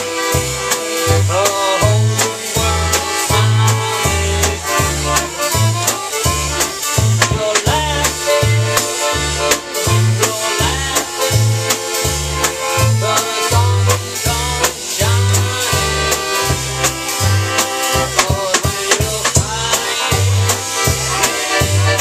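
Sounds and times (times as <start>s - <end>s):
accordions playing upbeat tune: 0.0s - 22.0s
bass notes: 0.0s - 22.0s
drum kit snare and cymbals: 0.0s - 22.0s.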